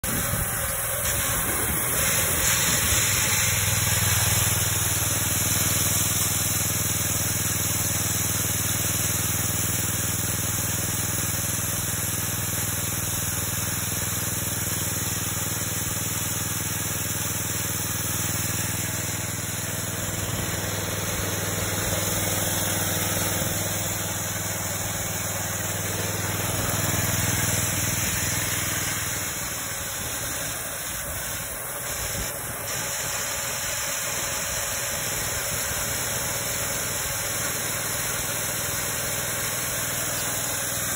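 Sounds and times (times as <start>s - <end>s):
chain cutting through log: 0.0s - 8.3s, 16.2s - 40.9s
gas engine humming under load: 0.0s - 40.9s.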